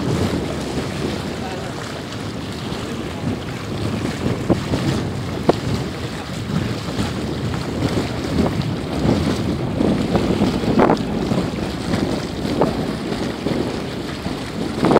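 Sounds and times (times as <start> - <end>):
small waves lapping on concrete: 0.0 - 14.9
wind buffeting microphone: 0.0 - 14.9.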